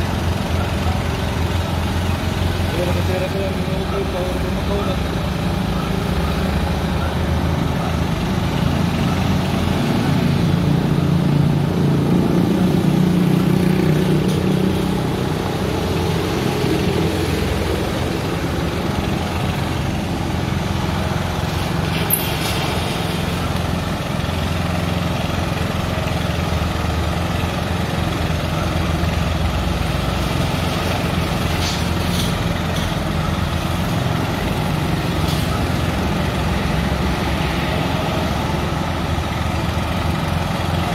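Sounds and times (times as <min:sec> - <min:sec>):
crane engine running: 0:00.0 - 0:40.9.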